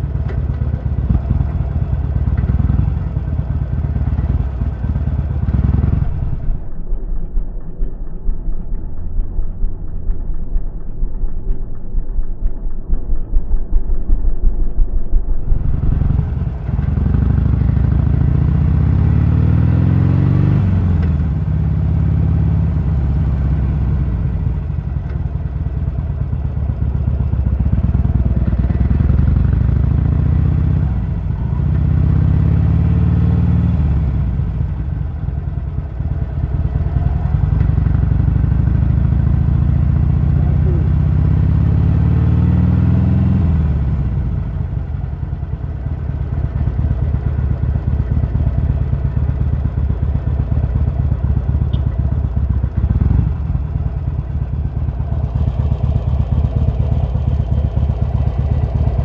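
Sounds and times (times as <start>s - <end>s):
motorcycle engine revving: 0.0s - 7.5s, 15.4s - 59.0s.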